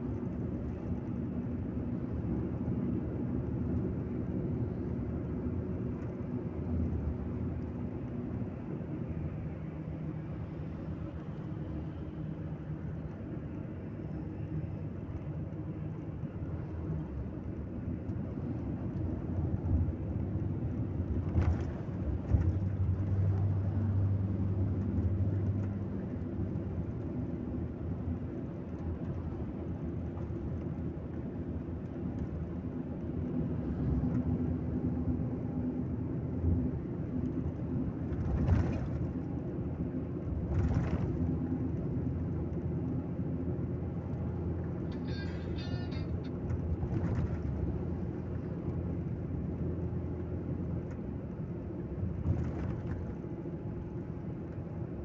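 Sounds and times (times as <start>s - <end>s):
bus engine and road drone: 0.0s - 55.0s.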